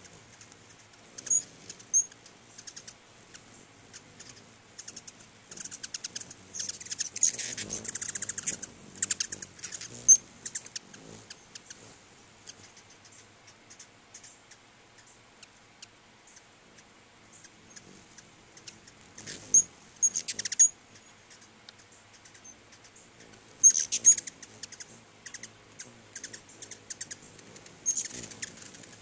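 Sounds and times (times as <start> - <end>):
hum of hummingbird wings: 0.0 - 29.0
hummingbirds chittering: 0.0 - 29.0.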